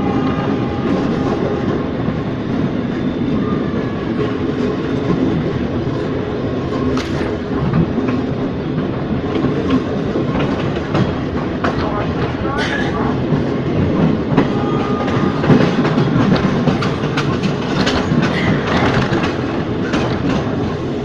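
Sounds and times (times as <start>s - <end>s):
train wheels rumbling on rail: 0.0s - 21.0s
rail joint clicks: 3.7s - 21.0s.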